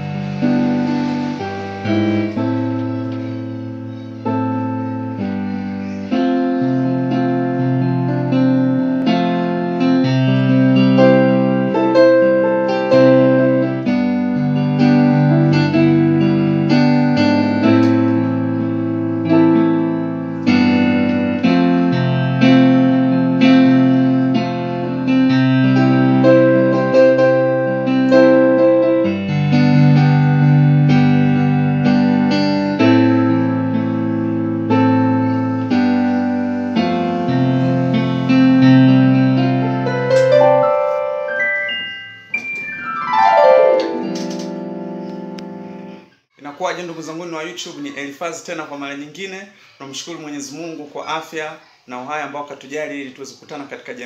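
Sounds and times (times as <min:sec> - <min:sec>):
electronic keyboard chords: 0:00.0 - 0:46.3.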